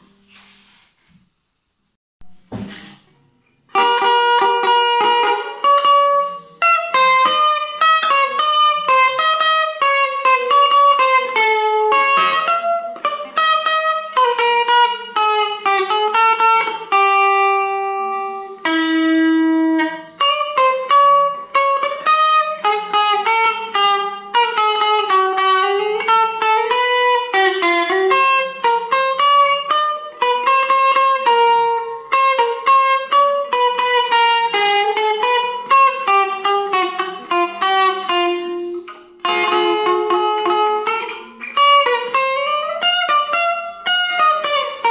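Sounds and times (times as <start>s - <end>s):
electric guitar melody: 2.2s - 44.9s.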